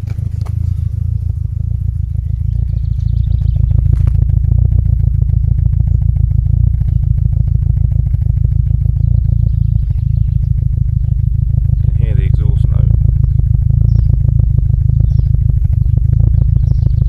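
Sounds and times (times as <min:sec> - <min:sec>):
van engine idling roughly: 0:00.0 - 0:17.0.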